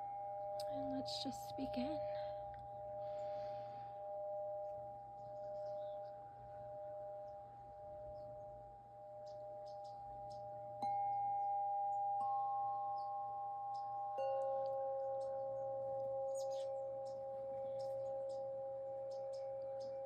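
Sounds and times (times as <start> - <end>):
singing bowls ringing: 0.0 - 20.0.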